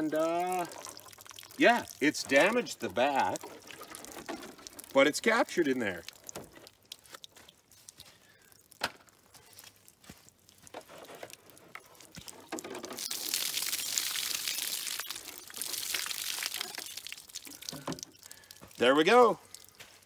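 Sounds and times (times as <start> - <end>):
plastic jug crinkling and clicking: 0.0 - 14.0, 14.6 - 20.0
water pouring and splashing: 0.0 - 20.0.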